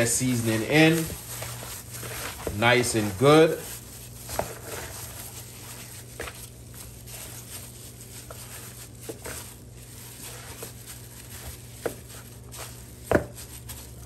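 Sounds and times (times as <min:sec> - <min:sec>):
hands rubbing meat: 0:00.0 - 0:14.0
low steady hum: 0:00.0 - 0:14.0.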